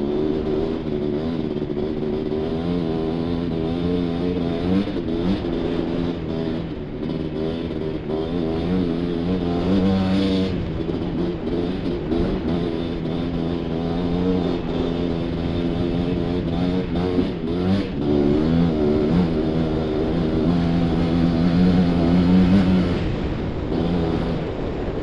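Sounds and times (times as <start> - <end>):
quad engine revving: 0.0 - 25.0
wind rumble: 4.4 - 25.0.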